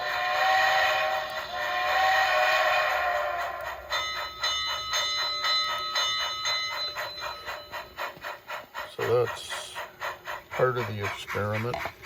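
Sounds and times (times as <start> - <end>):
steam locomotive exhaust chuffs: 0.0 - 12.0.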